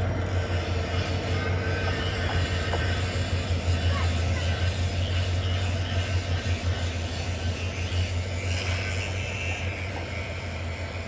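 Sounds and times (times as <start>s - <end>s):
locomotive diesel engine humming: 0.0s - 11.0s.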